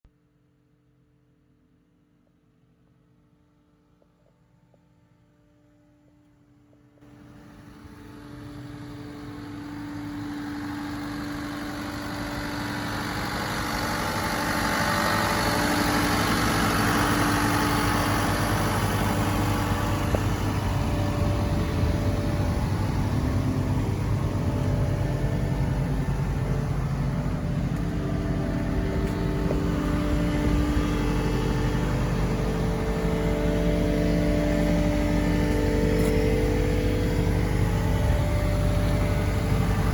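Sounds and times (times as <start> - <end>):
diesel engine running: 7.0 - 39.9.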